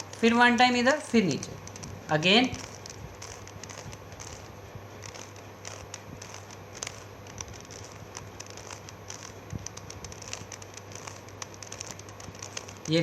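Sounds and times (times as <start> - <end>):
low hum: 0.0 - 13.0
rubik's cube clicking: 0.0 - 13.0.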